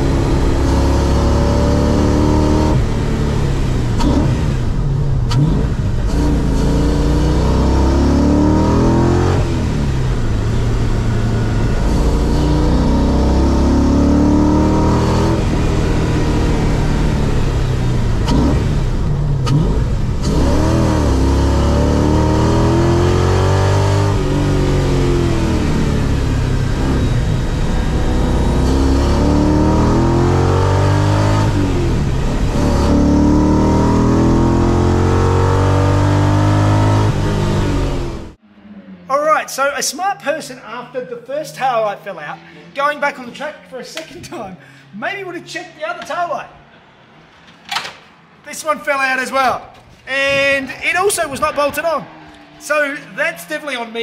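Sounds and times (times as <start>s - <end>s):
car engine revving: 0.0s - 39.9s, 50.1s - 54.0s.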